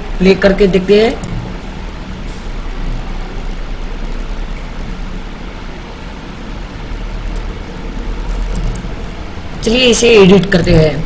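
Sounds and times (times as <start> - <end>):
low hum: 0.0 - 11.0
steady rushing noise: 0.0 - 11.0.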